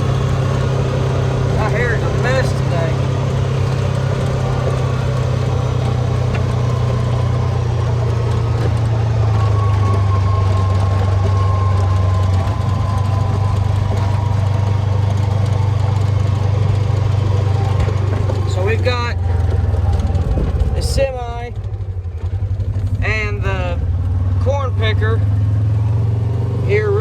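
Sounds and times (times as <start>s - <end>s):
utility vehicle engine droning: 0.0s - 27.0s.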